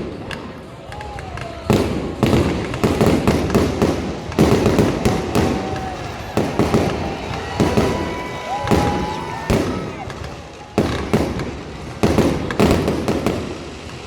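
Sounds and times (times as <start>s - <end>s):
fireworks bangs and booms: 0.0s - 14.0s
fireworks crackling: 0.0s - 14.0s.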